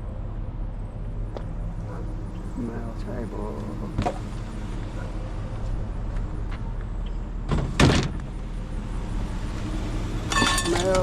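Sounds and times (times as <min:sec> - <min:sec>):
vehicle idling rumble: 0:00.0 - 0:07.5, 0:08.2 - 0:11.0.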